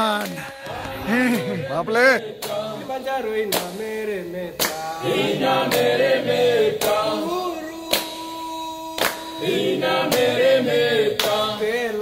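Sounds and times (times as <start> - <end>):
group singing in chorus: 0.0 - 12.0.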